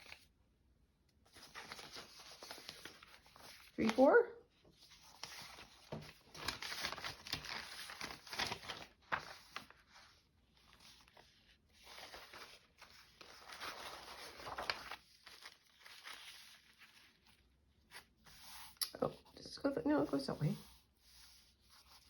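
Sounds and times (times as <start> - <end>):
paper rustling and crinkling: 0.0 - 0.4, 1.2 - 22.0.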